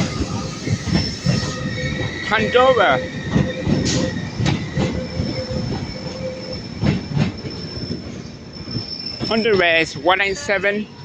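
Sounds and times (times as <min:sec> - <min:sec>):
low train rumble: 0:00.0 - 0:11.0
train wheels squealing: 0:00.0 - 0:11.0.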